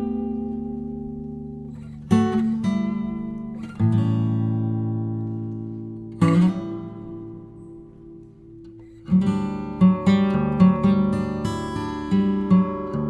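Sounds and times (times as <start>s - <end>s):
acoustic guitar chords and picking: 0.0s - 13.0s.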